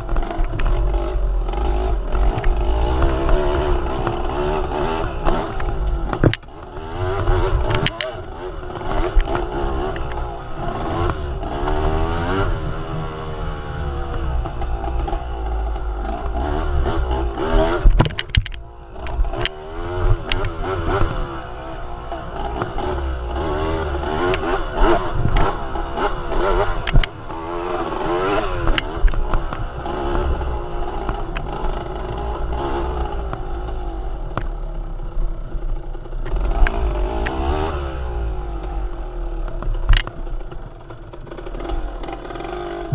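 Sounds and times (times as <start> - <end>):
rattles and clicks: 0.0 - 11.8, 14.0 - 21.4, 22.1 - 34.6, 39.4 - 42.9
vehicle engine revving: 0.0 - 42.9.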